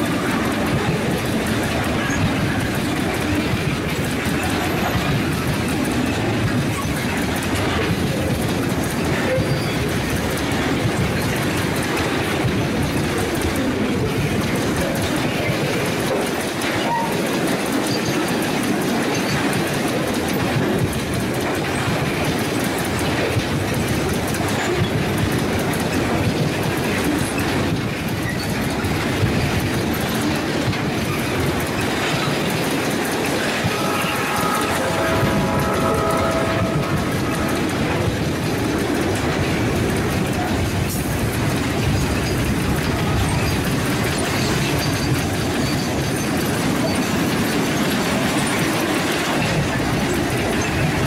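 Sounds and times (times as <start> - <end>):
clickety-clack over rail joints: 0.0 - 51.0
train wheels rumbling on rail: 0.0 - 51.0.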